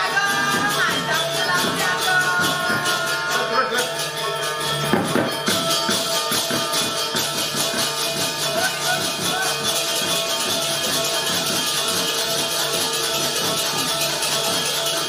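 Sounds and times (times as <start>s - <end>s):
metal-keyed instruments ringing: 0.0s - 15.0s
small cymbals clattering: 0.0s - 15.0s.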